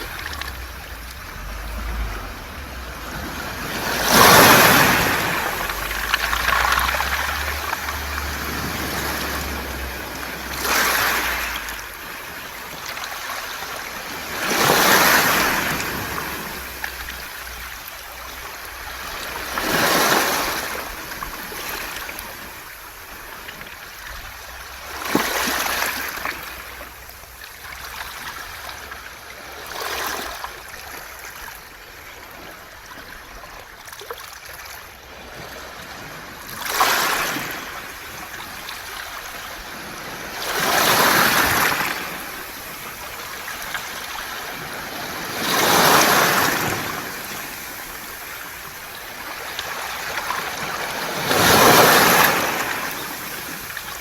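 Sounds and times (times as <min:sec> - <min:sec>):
sea waves washing over pebbles: 0:00.0 - 0:54.0.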